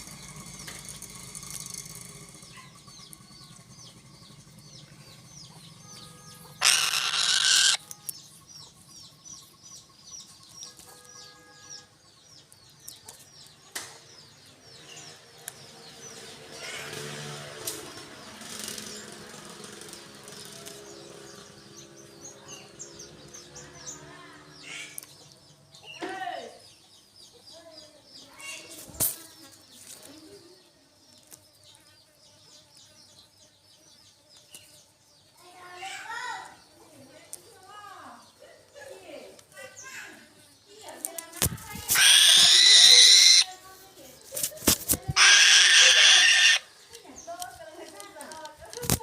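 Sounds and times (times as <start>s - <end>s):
birds chirping rapidly: 0.0s - 49.0s.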